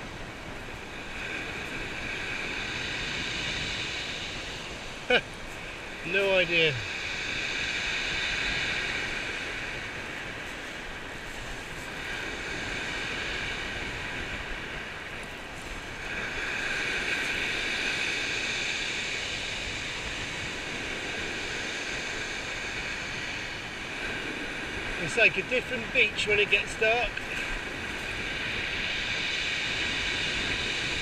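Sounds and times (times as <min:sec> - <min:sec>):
surf washing over pebbles: 0:00.0 - 0:31.0
wind: 0:00.0 - 0:31.0.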